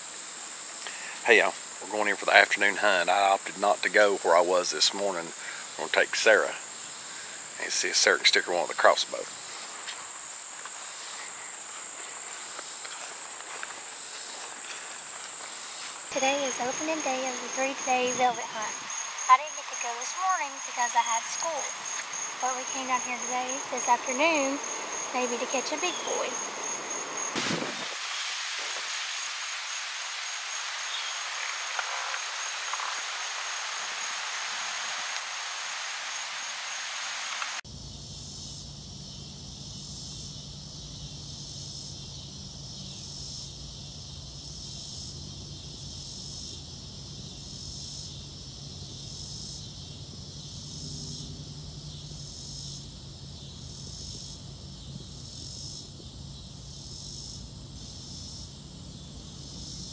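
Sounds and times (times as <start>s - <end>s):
insects chirping: 0.0s - 59.9s
steady hiss with high whine: 0.0s - 59.9s.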